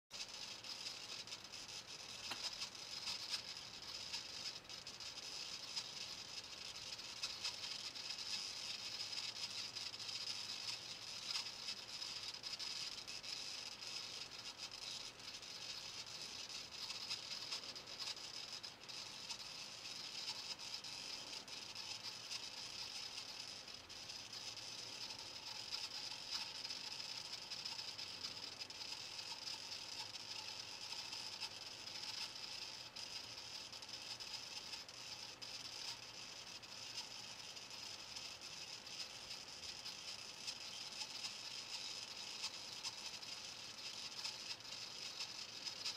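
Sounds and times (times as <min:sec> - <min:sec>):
faint steady hiss: 0:00.1 - 0:45.9.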